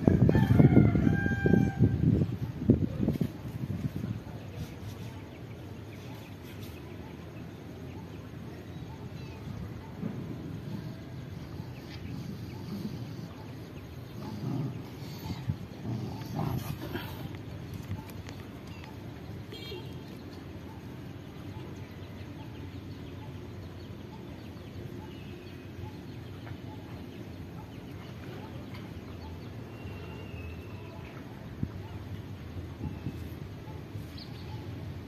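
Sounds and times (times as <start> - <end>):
low outdoor background noise: 0.0 - 35.0.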